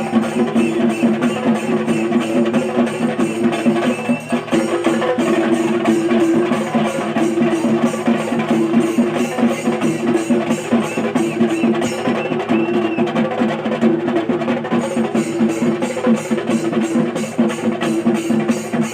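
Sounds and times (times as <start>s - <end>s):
hand cymbals striking: 0.0s - 12.2s, 14.7s - 18.9s
drums in fast rhythm: 0.0s - 18.9s.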